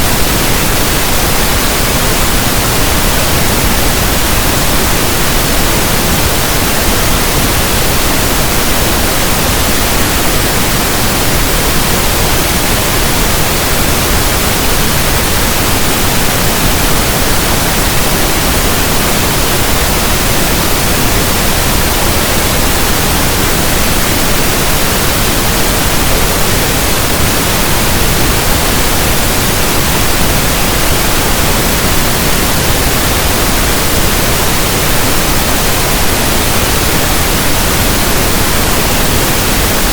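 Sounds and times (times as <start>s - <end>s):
steady static hiss: 0.0s - 39.9s.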